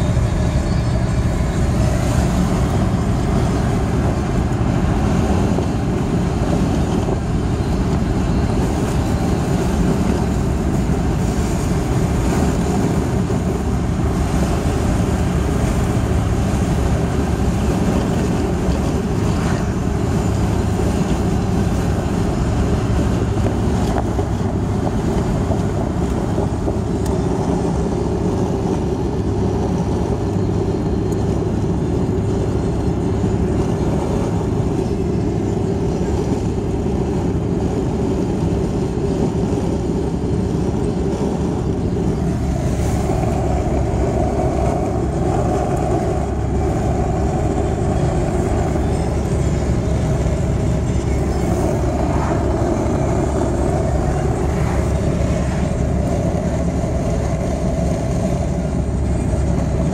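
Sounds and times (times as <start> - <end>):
car road noise from inside: 0.0 - 59.9.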